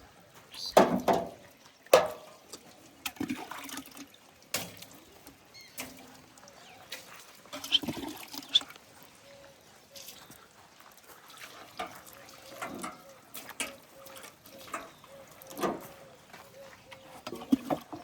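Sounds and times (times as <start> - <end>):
water splashing and dribbling: 0.0 - 18.0.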